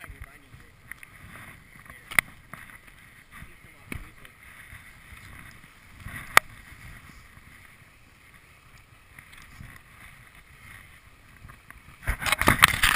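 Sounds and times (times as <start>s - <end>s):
skis swishing over snow: 0.0s - 12.9s.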